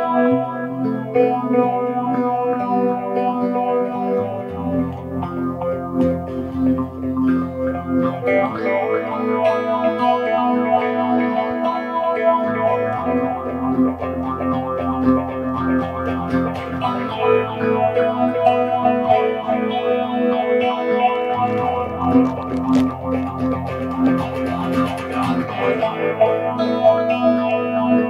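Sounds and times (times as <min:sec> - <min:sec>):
distorted electric guitar: 0:00.0 - 0:28.0.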